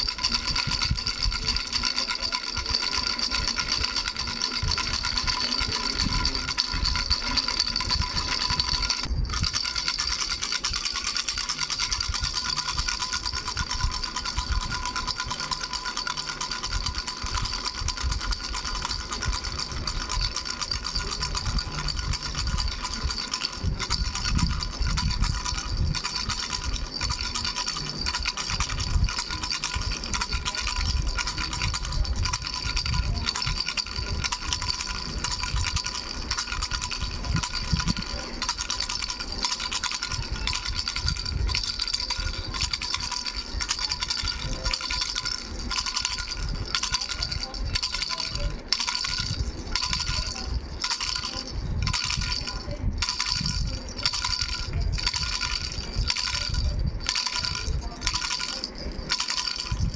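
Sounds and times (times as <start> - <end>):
baby rattle shaken: 0.0 - 59.9.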